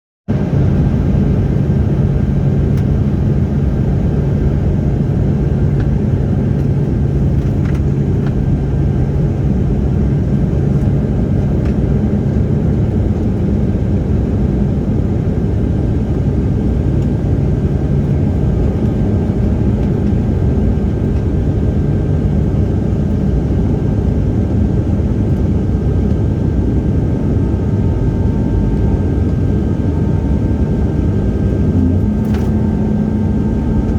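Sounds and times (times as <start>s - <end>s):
jet engines rumbling: 0.3s - 33.9s.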